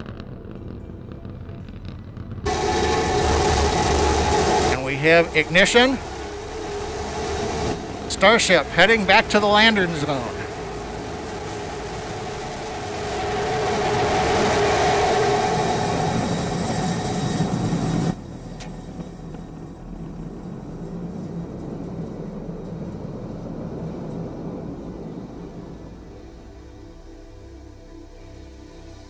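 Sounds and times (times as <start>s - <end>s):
rocket engines roaring: 0.1s - 26.8s
faint steady noise: 2.3s - 29.0s.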